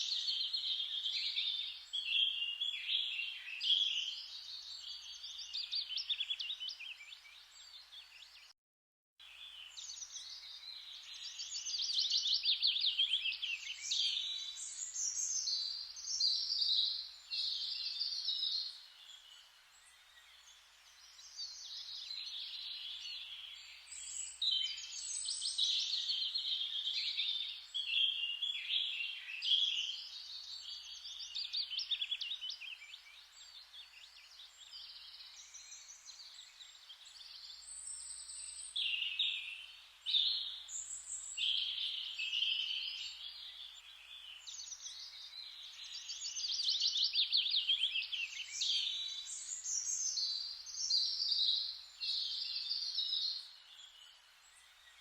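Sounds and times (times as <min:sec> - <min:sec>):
songbirds chirping and trilling: 0:00.0 - 0:08.5, 0:09.2 - 0:55.0.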